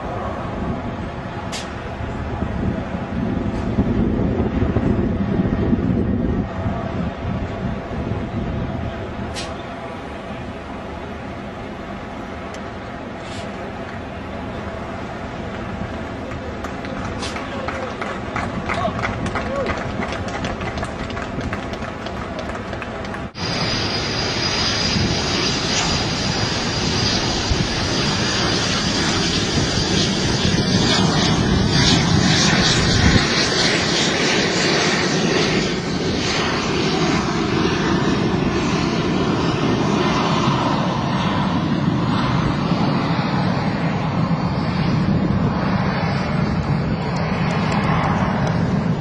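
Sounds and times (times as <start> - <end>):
propeller airplane engine running: 0.0 - 49.0.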